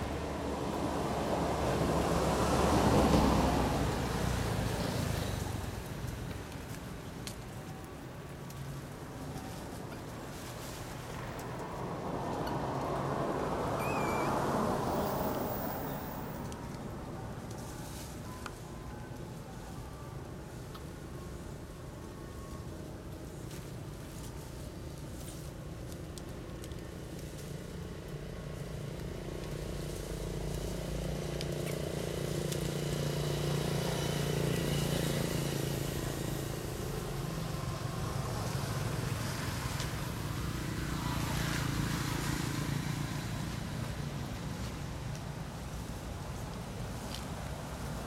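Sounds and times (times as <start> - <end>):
passing motor traffic hum: 0.0 - 18.6, 24.8 - 48.0
faint outdoor background noise: 0.0 - 48.0.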